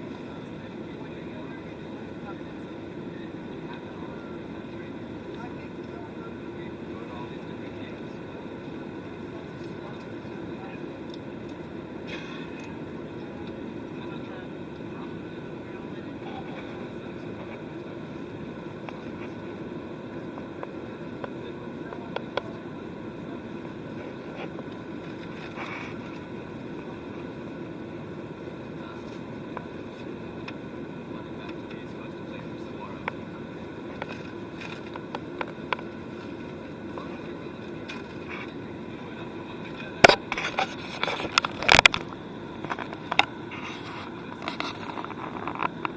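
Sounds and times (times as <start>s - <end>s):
airliner cabin engine noise: 0.0s - 45.9s.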